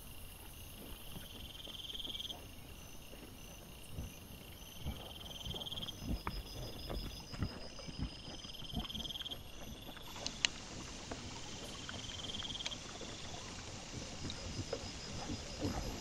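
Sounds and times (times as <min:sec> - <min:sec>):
animals rooting on ground: 0:00.0 - 0:16.0
crickets chirping: 0:00.0 - 0:16.0.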